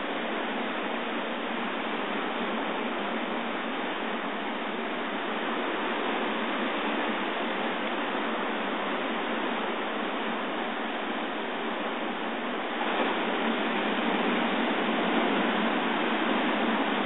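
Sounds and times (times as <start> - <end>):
surf washing over rocks: 0.0 - 17.0.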